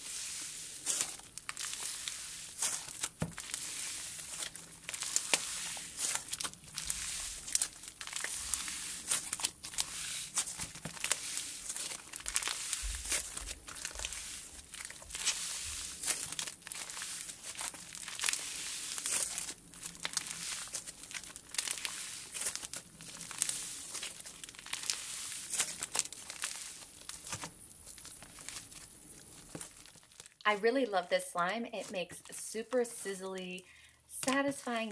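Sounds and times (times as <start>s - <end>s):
slime crackling and popping: 0.0s - 30.5s.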